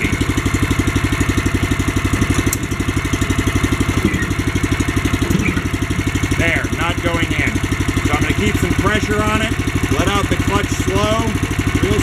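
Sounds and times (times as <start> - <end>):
small gasoline engine idling: 0.0 - 12.0.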